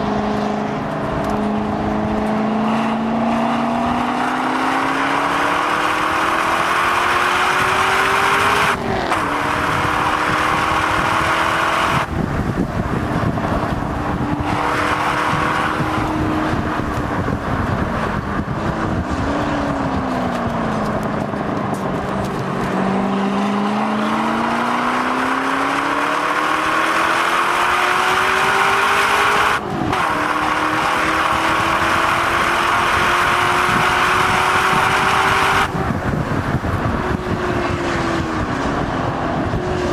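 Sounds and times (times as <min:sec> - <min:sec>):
car engine revving: 0:00.0 - 0:39.9
wind and road rush: 0:00.0 - 0:39.9.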